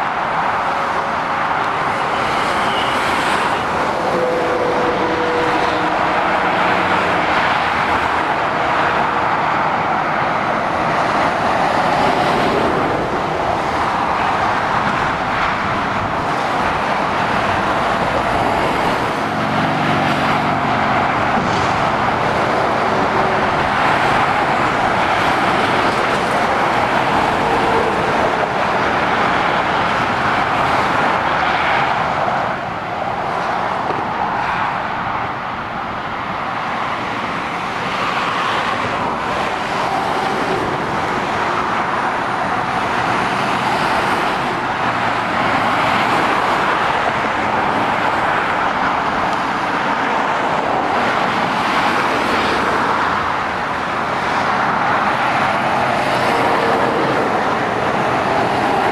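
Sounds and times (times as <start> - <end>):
motorway traffic tyre roar: 0.0 - 58.9.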